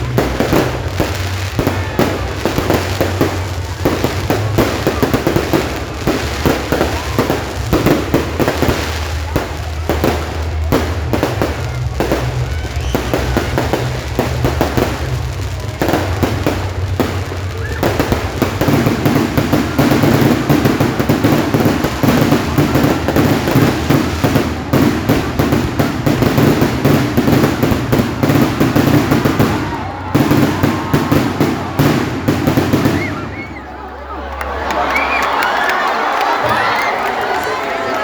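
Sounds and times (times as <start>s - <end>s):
fireworks crackling and banging: 0.0s - 33.8s.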